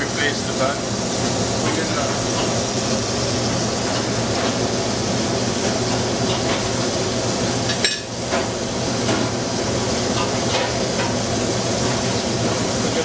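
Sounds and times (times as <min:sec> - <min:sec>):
restaurant kitchen hissing noise: 0:00.0 - 0:13.0.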